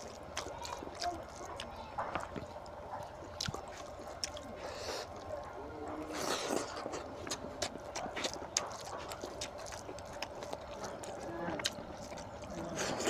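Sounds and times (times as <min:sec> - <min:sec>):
wet chewing with lip smacks: 0:00.0 - 0:13.0.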